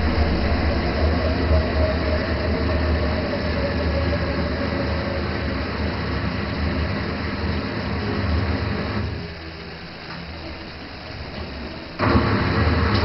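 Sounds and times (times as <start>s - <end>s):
washing machine running: 0.0s - 13.0s.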